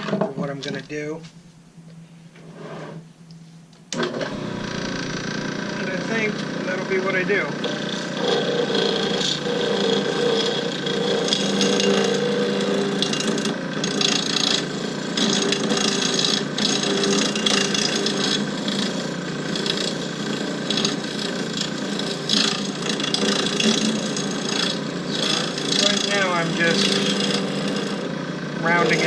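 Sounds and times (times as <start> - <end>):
lathe humming: 3.9 - 29.0
lathe tool chipping and scraping: 4.0 - 29.0.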